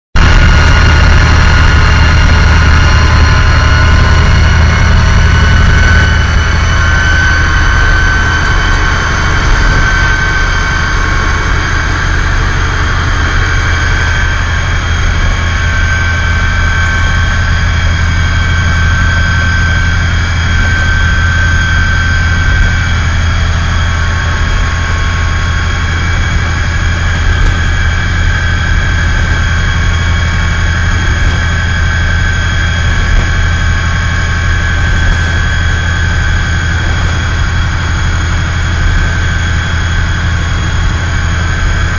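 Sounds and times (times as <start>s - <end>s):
high whine: 0.2s - 41.9s
locomotive engine drone: 0.2s - 41.9s.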